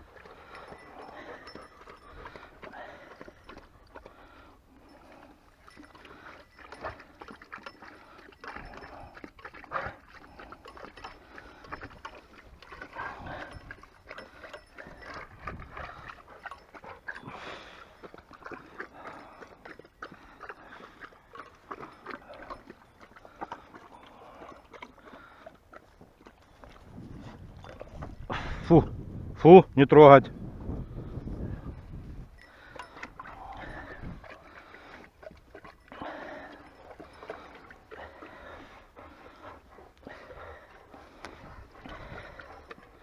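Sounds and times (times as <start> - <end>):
dogs slurping and licking: 0.0 - 29.4, 30.3 - 43.0.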